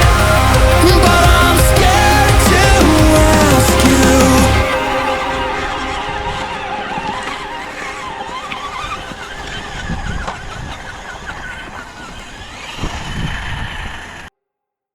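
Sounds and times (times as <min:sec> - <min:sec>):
electric motor whining: 0:00.0 - 0:14.3.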